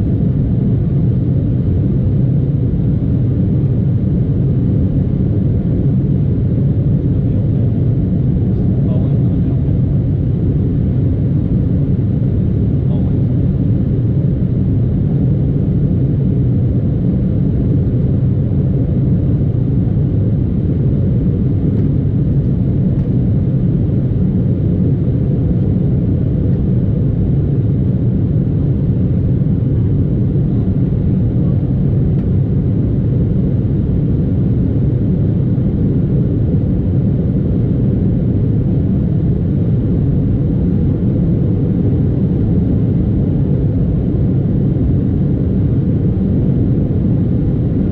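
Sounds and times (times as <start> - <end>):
airliner cabin engine drone: 0.0 - 47.9.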